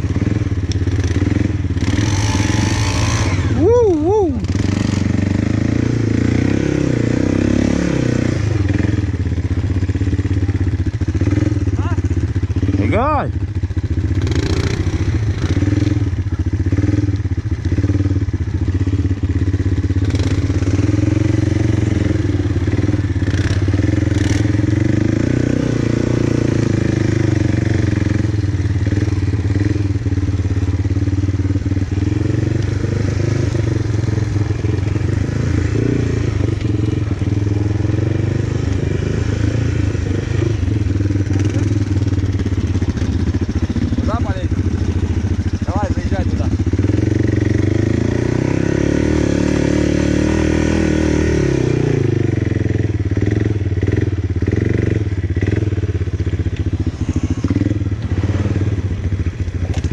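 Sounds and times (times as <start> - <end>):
quad engine running: 0.0 - 59.9.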